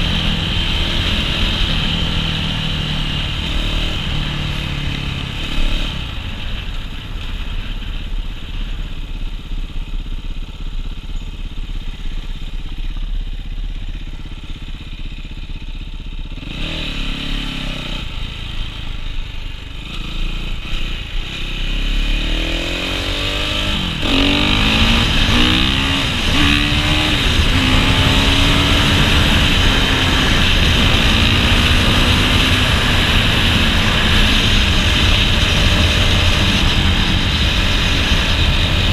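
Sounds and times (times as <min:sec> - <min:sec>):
dirt bike engine revving: 0:00.0 - 0:06.2, 0:13.3 - 0:19.0, 0:19.7 - 0:38.9.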